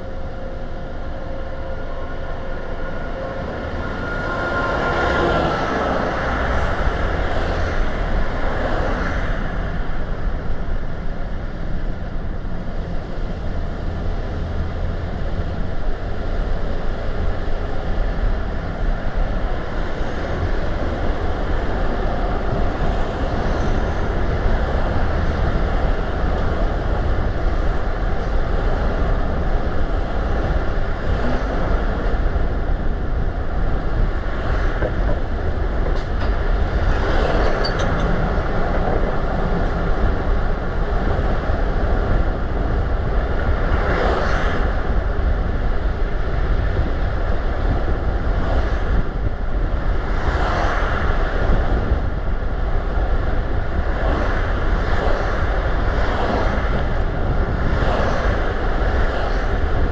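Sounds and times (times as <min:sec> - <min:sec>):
car tyre and road noise: 0:00.0 - 0:59.9.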